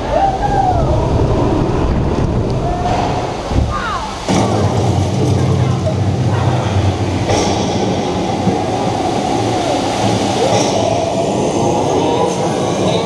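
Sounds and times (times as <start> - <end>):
ride boat rumbling on track: 0.0 - 13.0.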